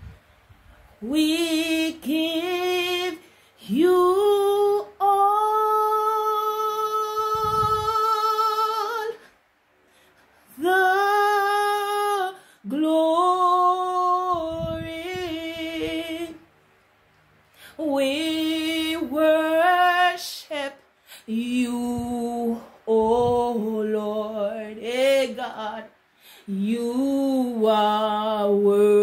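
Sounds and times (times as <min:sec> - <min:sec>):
woman singing unaccompanied: 0:01.0 - 0:09.3, 0:10.4 - 0:16.5, 0:17.7 - 0:29.0.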